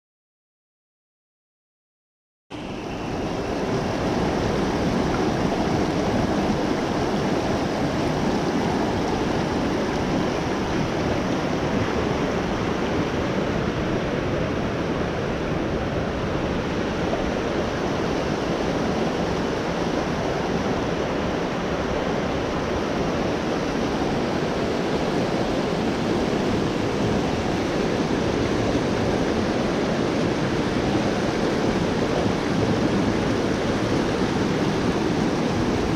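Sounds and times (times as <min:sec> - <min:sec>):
creek rushing over rocks: 0:02.6 - 0:35.9.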